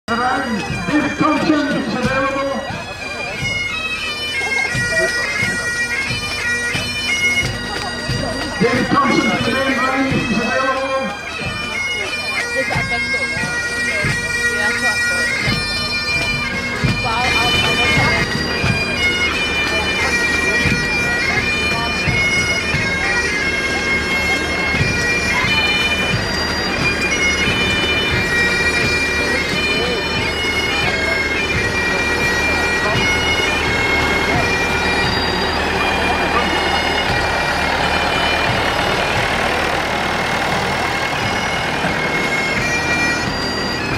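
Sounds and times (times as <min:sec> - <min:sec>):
drum beats: 0:00.1 - 0:03.8, 0:04.4 - 0:10.7, 0:11.4 - 0:43.9
bagpipes playing melody: 0:00.1 - 0:43.9.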